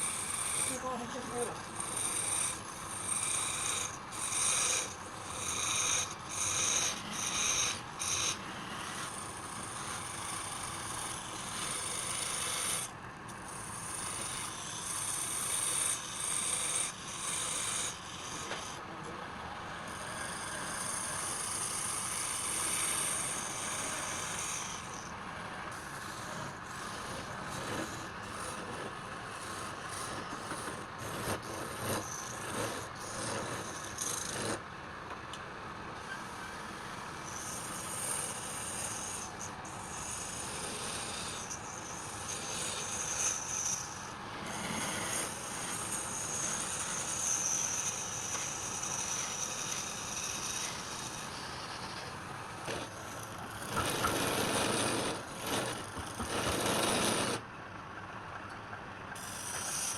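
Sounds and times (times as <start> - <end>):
tool cutting wood: 0.0 - 18.9, 19.8 - 34.7, 36.0 - 57.4, 59.2 - 59.9
wood lathe spinning: 0.0 - 57.4, 59.2 - 59.9.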